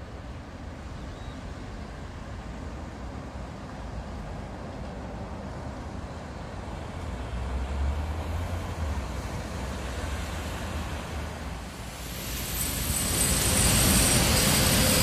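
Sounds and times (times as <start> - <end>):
road noise hiss: 0.0 - 15.0.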